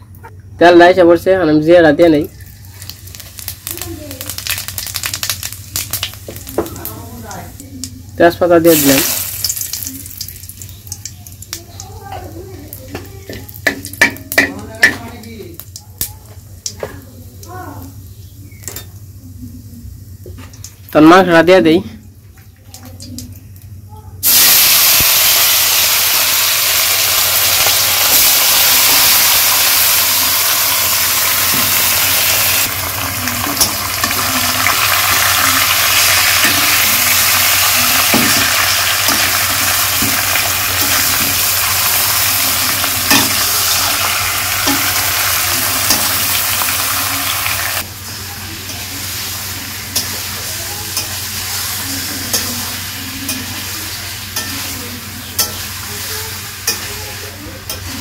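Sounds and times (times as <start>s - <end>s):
food sizzling in hot oil: 2.3s - 15.8s, 24.2s - 58.0s.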